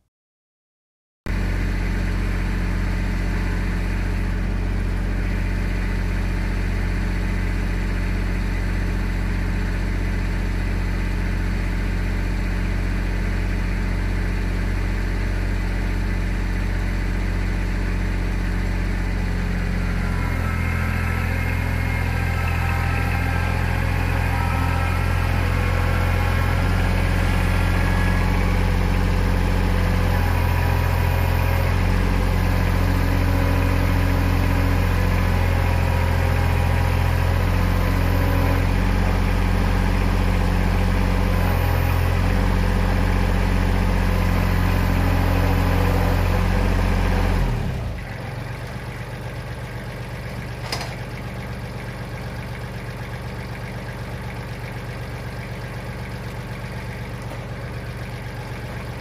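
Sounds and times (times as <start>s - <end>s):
tractor engine running: 1.3s - 59.0s.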